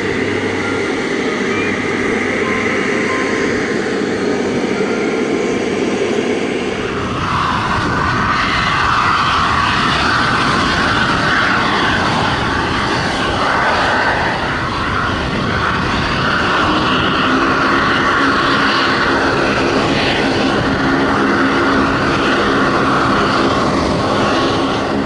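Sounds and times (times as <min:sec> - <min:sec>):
low steady drone: 0:00.0 - 0:25.0
turboprop aircraft engines: 0:00.0 - 0:25.0.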